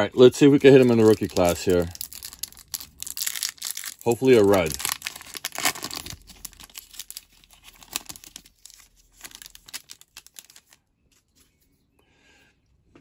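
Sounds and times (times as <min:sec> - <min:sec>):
foil wrapper crinkling: 0:00.4 - 0:11.6.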